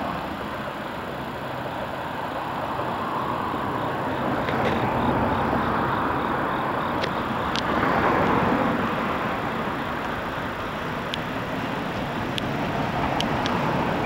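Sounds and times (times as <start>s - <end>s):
electric train rumbling past: 0.0s - 14.0s.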